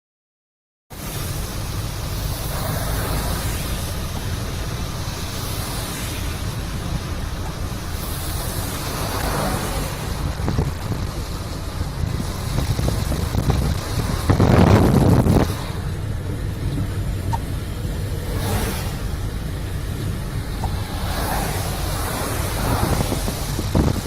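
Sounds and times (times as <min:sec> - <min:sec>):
river rushing in flood: 0:01.0 - 0:24.0
wind buffeting microphone: 0:01.8 - 0:24.0.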